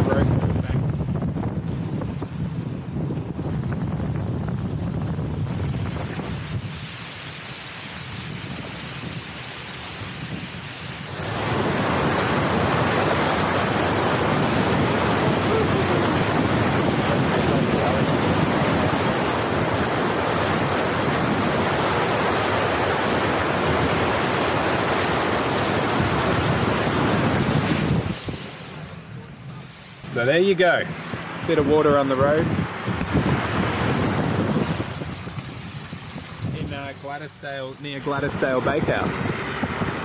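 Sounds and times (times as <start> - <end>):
tyres rushing through water: 0.0 - 40.0
wind buffeting microphone: 0.0 - 40.0.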